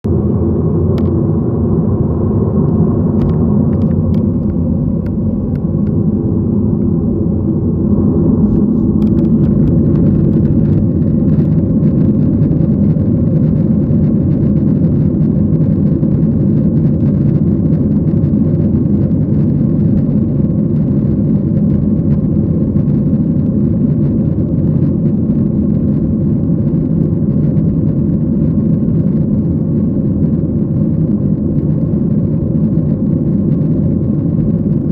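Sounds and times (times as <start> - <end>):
airliner engines and airflow rumble: 0.0 - 34.9.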